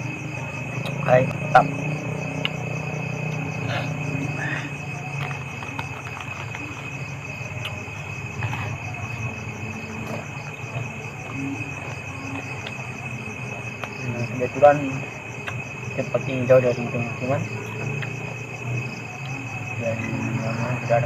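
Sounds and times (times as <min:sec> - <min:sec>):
fast pulsing insect chirp: 0:00.0 - 0:21.0
insect high-pitched trill: 0:00.0 - 0:21.0.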